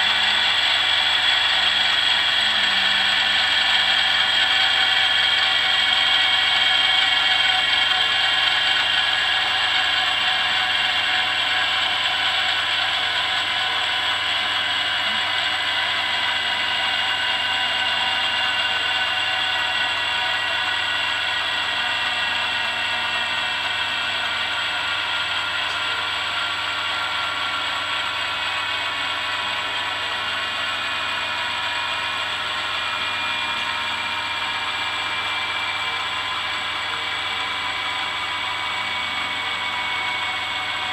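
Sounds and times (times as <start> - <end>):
balancing machine whine: 0.0 - 40.9.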